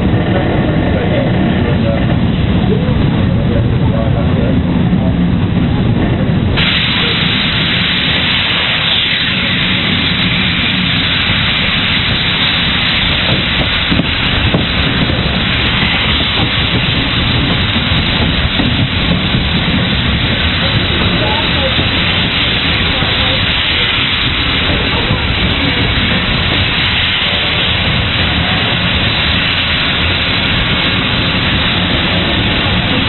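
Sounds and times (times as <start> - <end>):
steam locomotive running: 0.0 - 33.0
wind buffeting microphone: 0.0 - 33.0.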